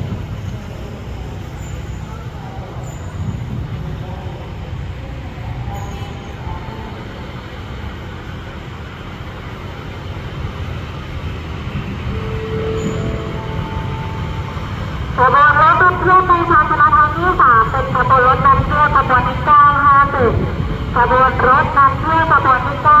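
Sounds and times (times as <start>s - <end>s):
diesel train engine rumbling: 0.0s - 23.0s.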